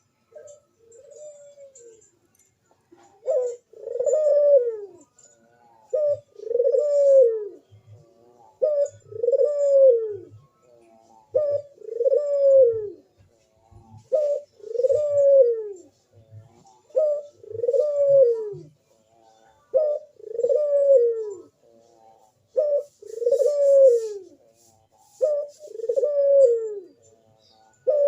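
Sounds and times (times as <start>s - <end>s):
dove cooing: 0.0s - 28.0s.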